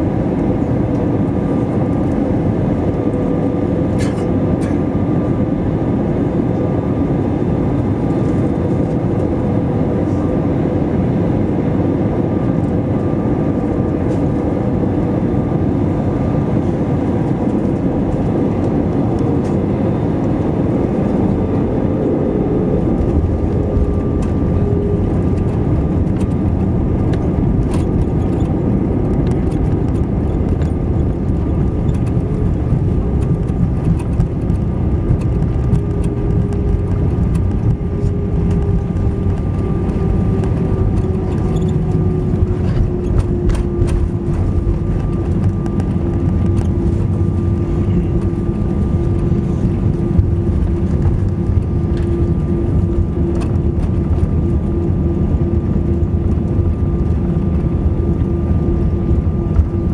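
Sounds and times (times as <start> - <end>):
aircraft rumbling on runway: 0.0 - 59.9
jet engines and airflow rushing: 0.0 - 59.9.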